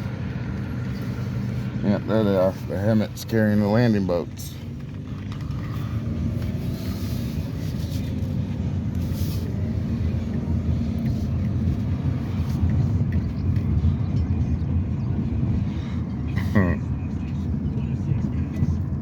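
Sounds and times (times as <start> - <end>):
truck diesel engines rumbling: 0.0 - 19.0.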